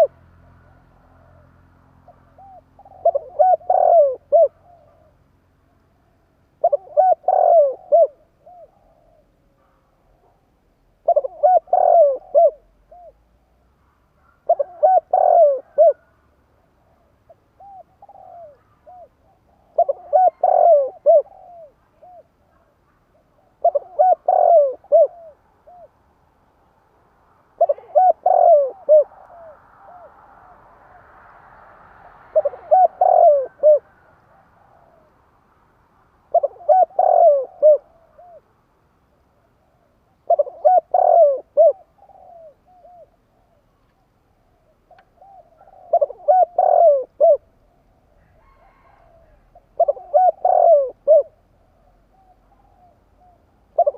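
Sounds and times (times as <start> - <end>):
dove cooing: 0.0 - 26.0, 27.5 - 31.2, 32.0 - 35.2, 36.2 - 38.5, 39.1 - 53.9.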